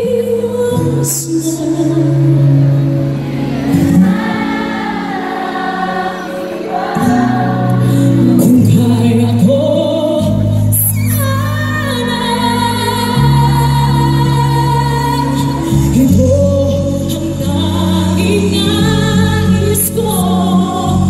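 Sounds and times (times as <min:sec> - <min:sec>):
musical accompaniment: 0:00.0 - 0:21.0
women singing a duet: 0:03.9 - 0:21.0.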